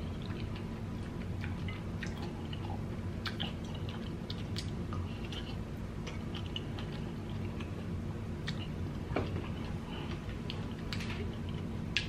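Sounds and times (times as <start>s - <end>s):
chewing soft fruit: 0.0s - 12.0s
steady low hum: 0.0s - 12.0s.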